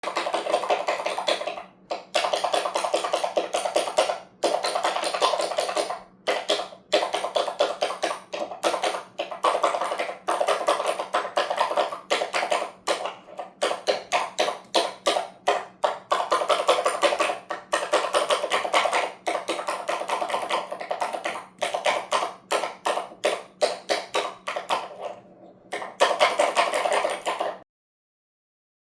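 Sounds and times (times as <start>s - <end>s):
faint steady hum: 0.0s - 27.6s
fast continuous clicking: 0.0s - 27.6s.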